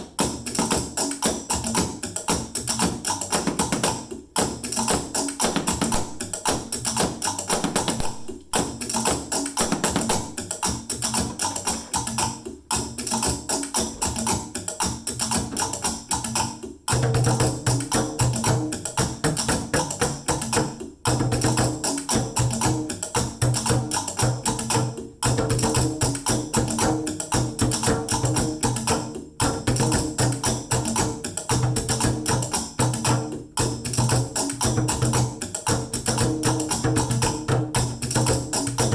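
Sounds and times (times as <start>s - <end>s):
household percussion jam: 0.0s - 38.9s.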